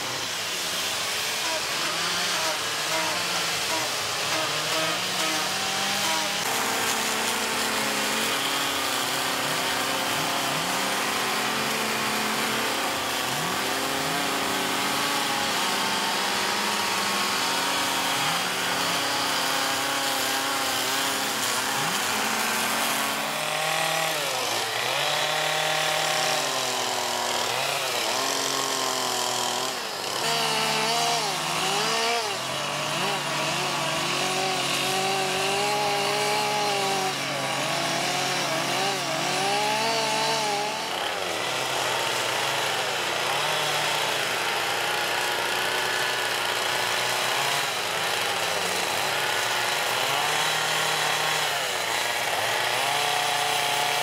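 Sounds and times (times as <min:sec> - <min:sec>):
chainsaws cutting wood: 0:00.0 - 0:54.0.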